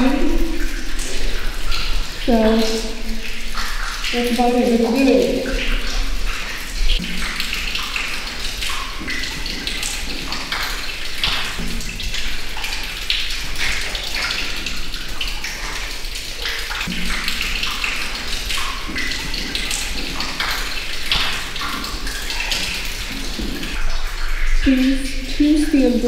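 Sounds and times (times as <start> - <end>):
water running and splashing: 0.0 - 26.0.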